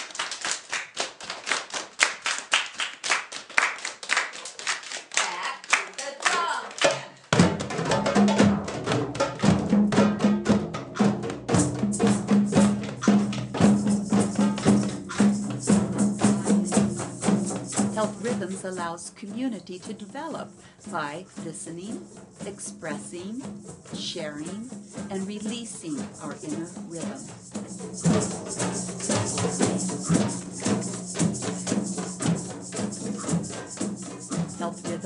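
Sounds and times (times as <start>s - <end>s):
group clapping in rhythm: 0.0s - 18.9s, 20.1s - 35.0s
group hand drumming: 0.0s - 35.0s.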